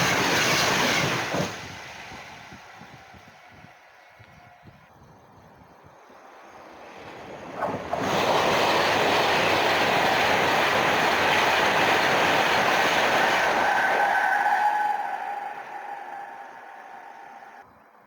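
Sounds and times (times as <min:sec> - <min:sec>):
train passing at speed: 0:00.0 - 0:17.7.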